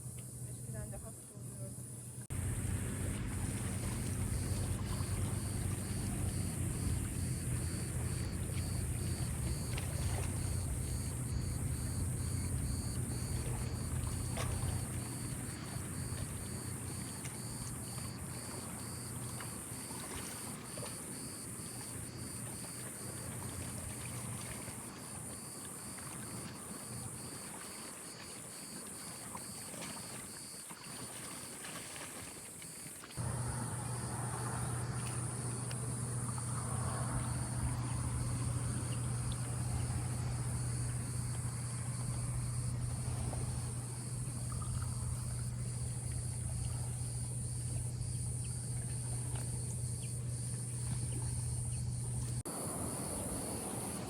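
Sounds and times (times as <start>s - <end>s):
low motor hum: 0.0s - 24.9s, 33.2s - 54.0s
cicadas chorus: 0.0s - 54.0s.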